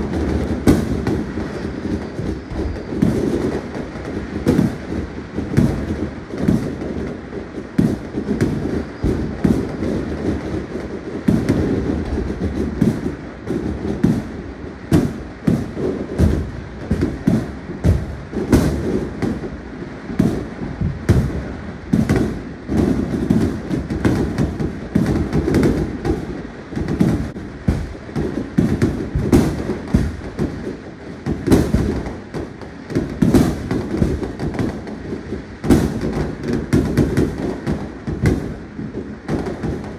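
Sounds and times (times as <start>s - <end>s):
fireworks bangs and booms: 0.0s - 39.9s.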